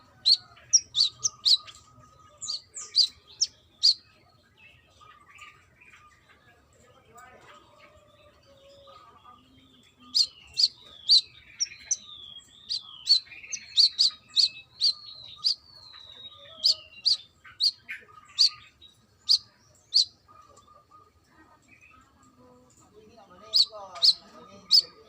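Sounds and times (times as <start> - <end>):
bird chirping: 0.0 - 7.3, 8.0 - 25.0.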